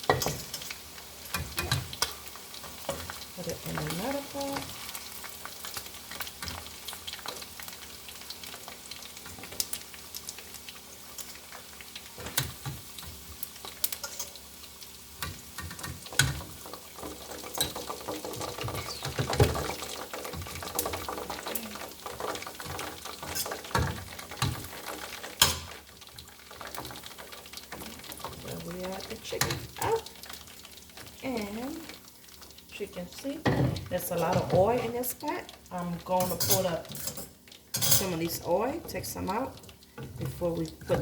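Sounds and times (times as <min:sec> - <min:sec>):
chicken sizzling in frying oil: 0:00.0 - 0:41.0.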